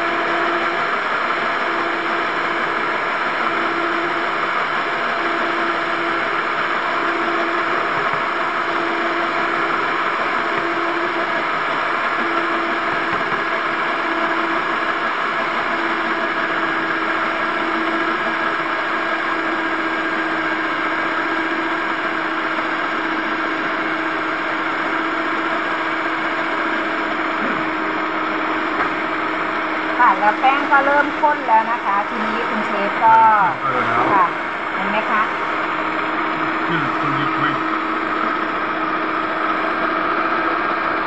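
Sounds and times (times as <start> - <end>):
stand mixer motor whirring: 0.0 - 41.0.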